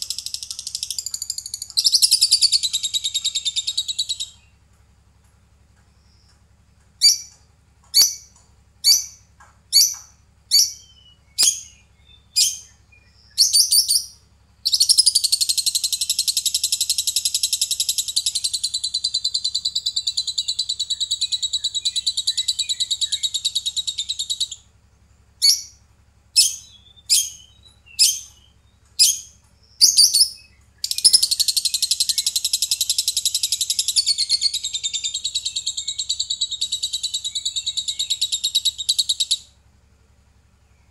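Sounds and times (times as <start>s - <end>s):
bird chirping and trilling: 0.0s - 4.5s, 7.0s - 24.7s, 25.4s - 25.8s, 26.4s - 39.5s.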